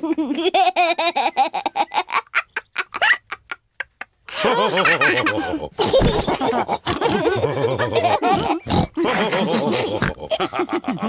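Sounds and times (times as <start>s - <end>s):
cartoon characters laughing: 0.1s - 11.0s.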